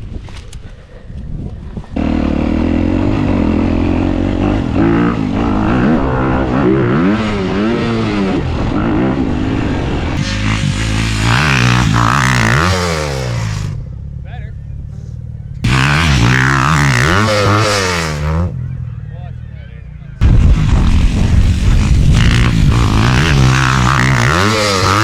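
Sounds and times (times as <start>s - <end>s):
dirt bike engine revving: 1.9s - 19.0s, 20.2s - 25.0s.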